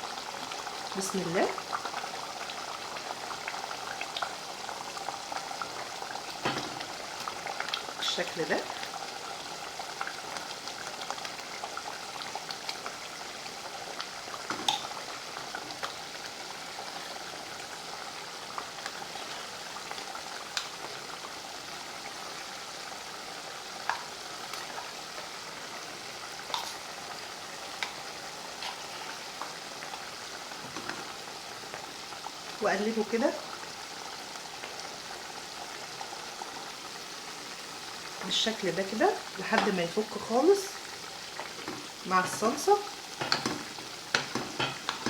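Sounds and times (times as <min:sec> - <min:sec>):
meat sizzling in tomato sauce: 0:00.0 - 0:45.0.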